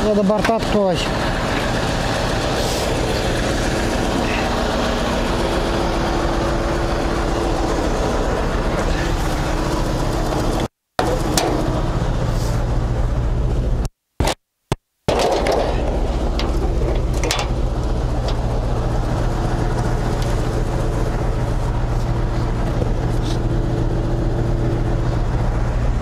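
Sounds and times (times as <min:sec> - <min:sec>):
diesel truck engine idling: 0:00.0 - 0:13.8, 0:15.4 - 0:26.0.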